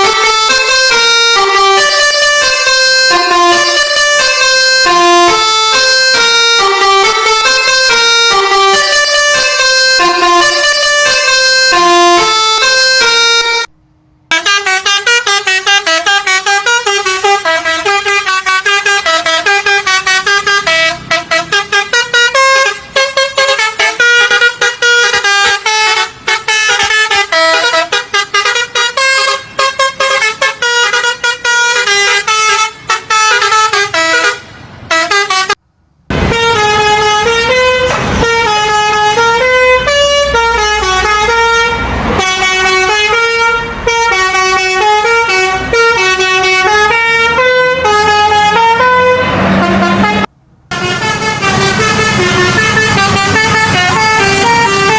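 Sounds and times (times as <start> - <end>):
multi-tone bus horn melody: 0.0 - 54.9.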